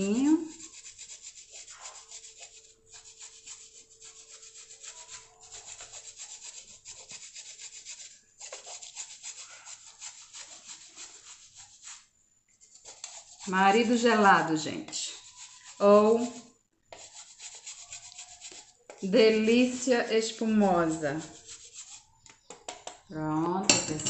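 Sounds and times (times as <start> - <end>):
chocolate being scraped: 0.0 - 23.1.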